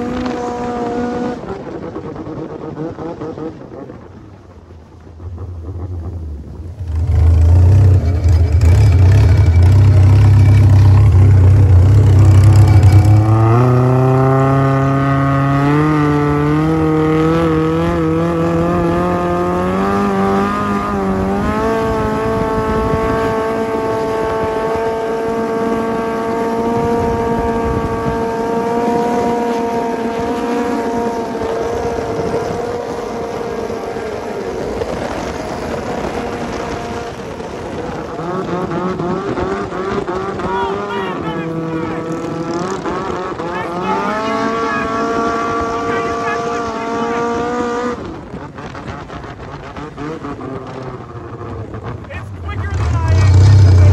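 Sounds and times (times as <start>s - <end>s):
boat engine revving: 0.0s - 53.9s.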